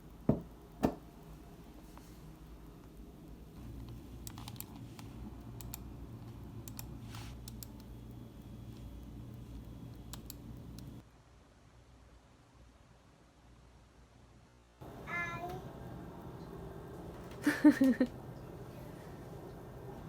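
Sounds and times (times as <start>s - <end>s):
low steady hum: 0.0s - 11.0s, 14.8s - 20.0s.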